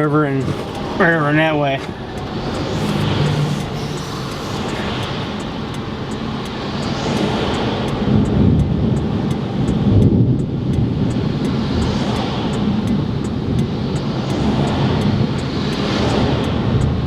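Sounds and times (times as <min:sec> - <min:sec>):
rain and wind on car: 0:00.0 - 0:17.0.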